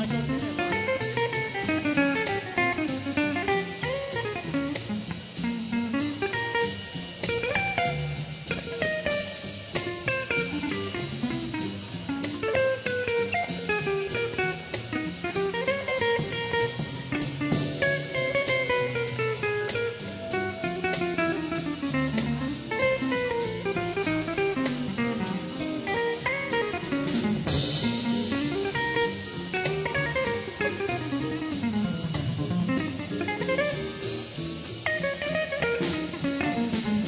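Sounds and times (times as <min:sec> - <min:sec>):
drums: 0:00.0 - 0:37.0
guitar solo: 0:00.0 - 0:37.0
swing band playing: 0:00.0 - 0:37.0
walking upright bass: 0:00.0 - 0:37.0.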